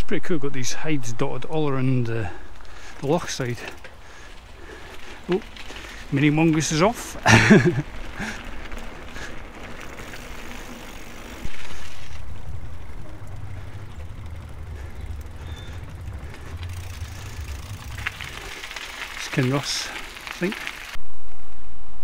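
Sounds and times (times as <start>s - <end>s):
bike rolling on path: 1.7s - 21.0s
tyres rumbling on wooden bridge: 2.3s - 21.0s.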